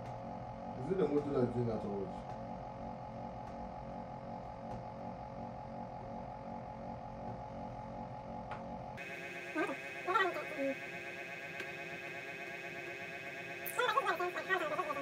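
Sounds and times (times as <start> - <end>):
stepper motor whine: 0.0 - 15.0.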